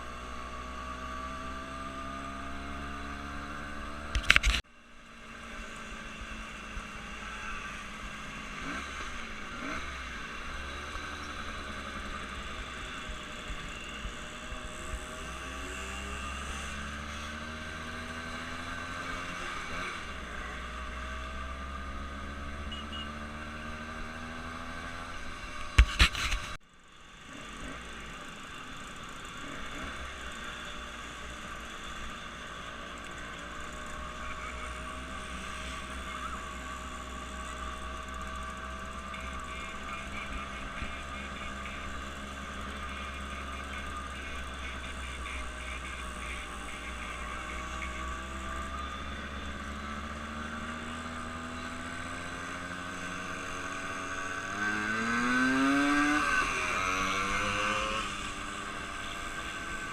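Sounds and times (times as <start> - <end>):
engine running and revving: 0.0 - 59.9.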